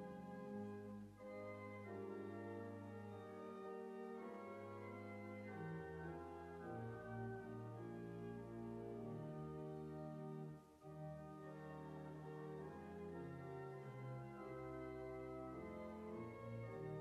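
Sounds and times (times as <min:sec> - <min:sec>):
church organ playing a hymn: 0:00.0 - 0:17.0.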